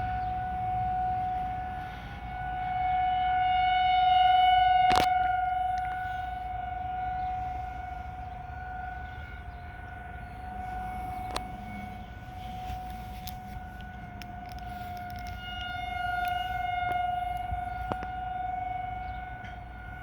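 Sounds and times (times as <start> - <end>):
outdoor warning sirens: 0.0 - 20.0.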